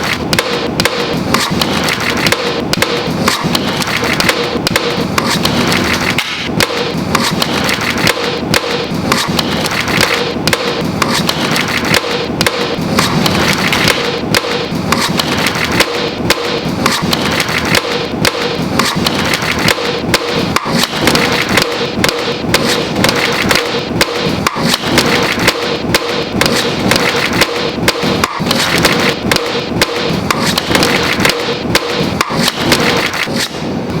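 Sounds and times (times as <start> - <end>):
playing cards clicking and tapping: 0.0 - 34.0.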